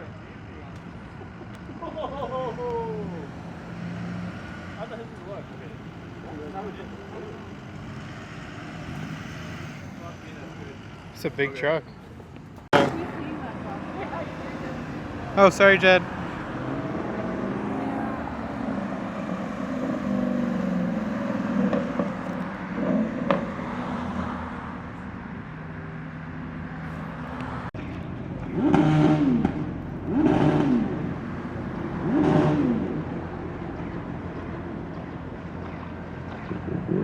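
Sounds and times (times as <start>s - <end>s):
vehicle engine running and revving: 3.2s - 11.3s, 12.5s - 25.5s, 26.6s - 37.0s.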